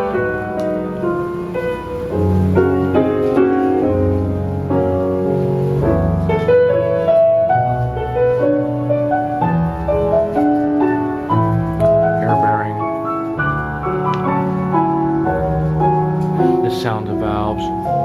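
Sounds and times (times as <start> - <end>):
jazz piano over loudspeakers: 0.0 - 18.0.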